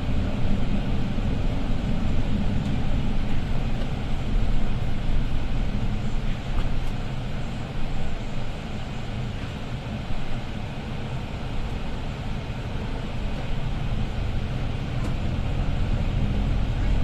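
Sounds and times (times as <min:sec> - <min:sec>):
diesel engine hum: 0:00.0 - 0:17.0.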